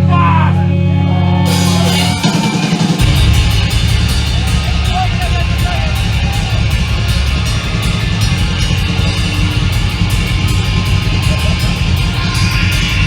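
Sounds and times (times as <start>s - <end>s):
distorted electric guitars: 0.0s - 13.0s
pounding drum kit: 1.5s - 13.0s.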